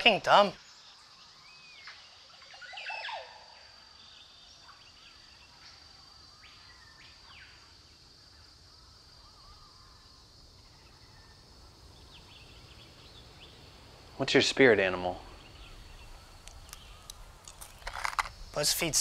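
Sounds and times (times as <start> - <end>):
birds calling: 0.0 - 7.8, 8.4 - 19.0.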